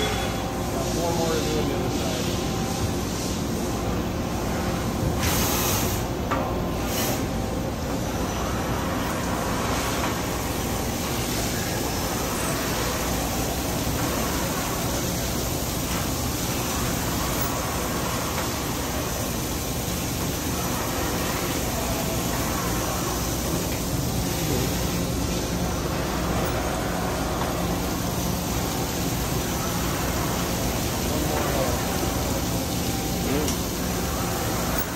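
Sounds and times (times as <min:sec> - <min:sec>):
coolant spraying hiss: 0:00.0 - 0:34.9.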